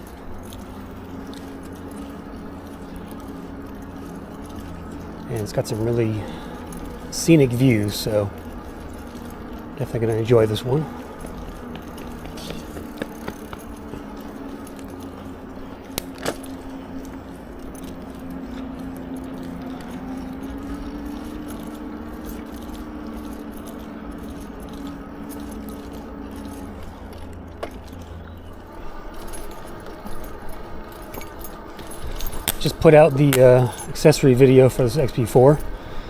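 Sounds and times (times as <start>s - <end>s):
bike rattling and clinking: 0.0s - 36.0s
electric bike motor whining: 0.0s - 36.0s
wind and tyre rumble: 0.0s - 36.0s.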